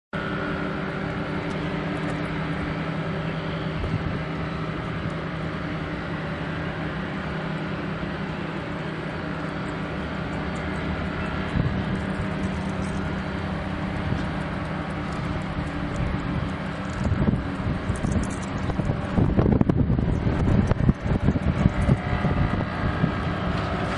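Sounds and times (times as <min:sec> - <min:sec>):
diesel locomotives droning: 0:00.1 - 0:23.9.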